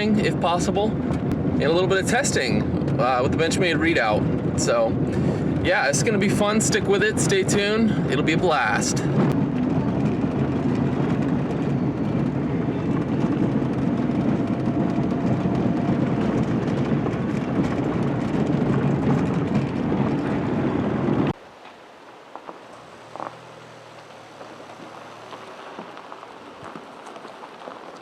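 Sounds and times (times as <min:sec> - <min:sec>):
vehicle rumble on dirt road: 0:00.0 - 0:28.0.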